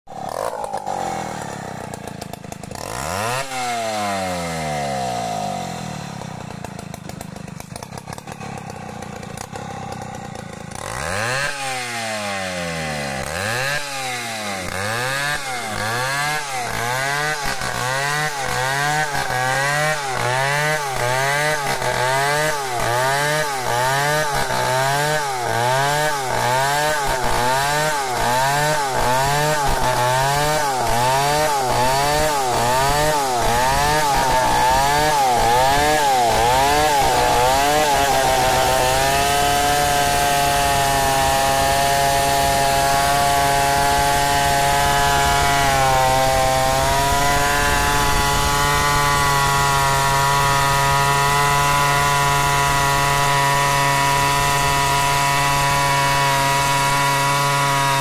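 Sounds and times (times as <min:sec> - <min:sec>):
chainsaw cutting a log: 0:00.1 - 0:58.0.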